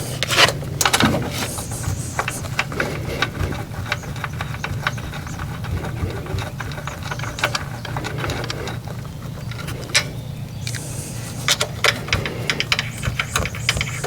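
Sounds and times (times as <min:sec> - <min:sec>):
hand tools tapping on metal: 0:00.0 - 0:14.0.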